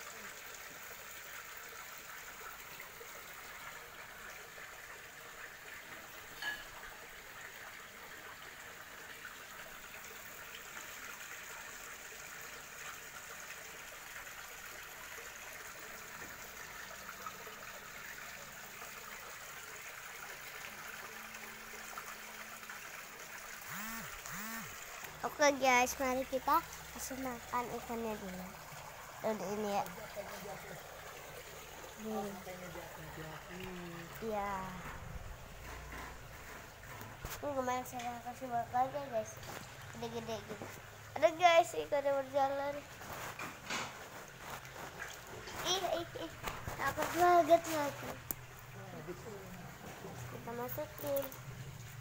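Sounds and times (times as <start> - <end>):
water trickling into pond: 0.0 - 52.0.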